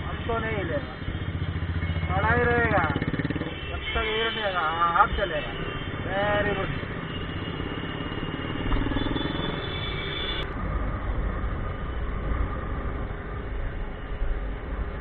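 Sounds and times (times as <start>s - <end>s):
city traffic noise: 0.0s - 15.0s.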